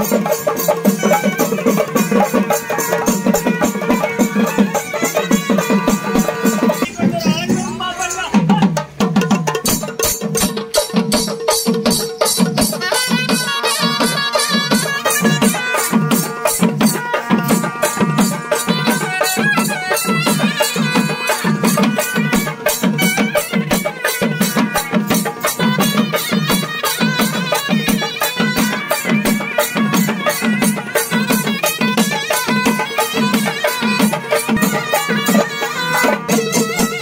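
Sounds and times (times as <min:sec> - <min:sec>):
drums beating steady rhythm: 0:00.0 - 0:37.0
sharp percussion: 0:00.0 - 0:37.0.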